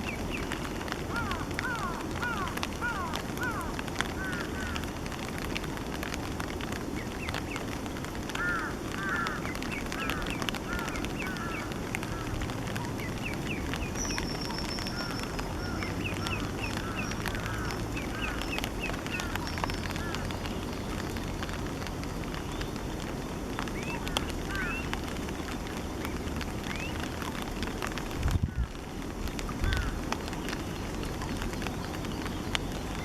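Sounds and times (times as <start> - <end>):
low background noise: 0.0 - 33.0.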